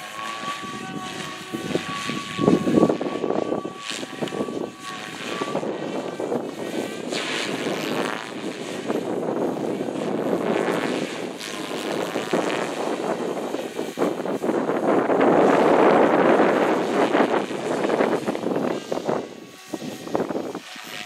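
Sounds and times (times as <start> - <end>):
model airplane engine buzzing: 0.0 - 21.0.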